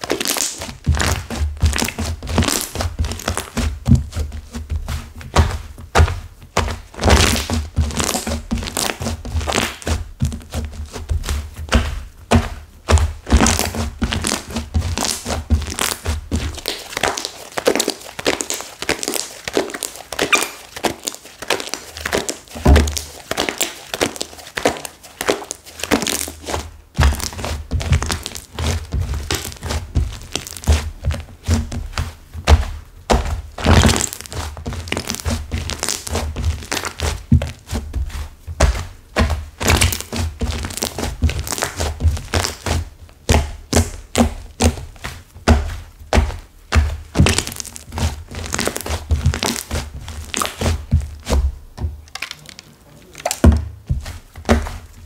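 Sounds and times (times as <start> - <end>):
hardened slime crackling and crunching: 0.0 - 55.0
dull thunks of pressed slime: 0.4 - 17.2, 25.9 - 52.3, 53.1 - 55.0.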